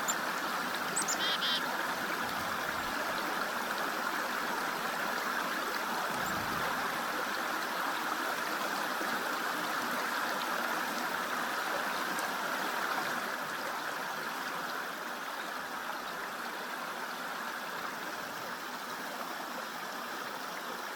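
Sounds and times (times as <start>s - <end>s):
creek water babbling: 0.0s - 20.9s.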